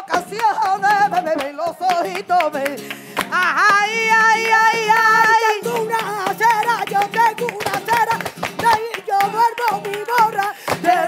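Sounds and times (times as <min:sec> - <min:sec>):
flamenco guitar: 0:00.0 - 0:11.0
sharp hand claps: 0:00.0 - 0:11.0.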